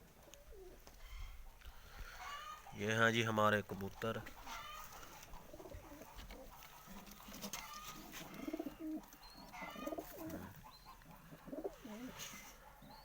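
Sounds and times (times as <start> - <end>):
pigeons cooing: 0.0 - 2.8, 4.3 - 13.0.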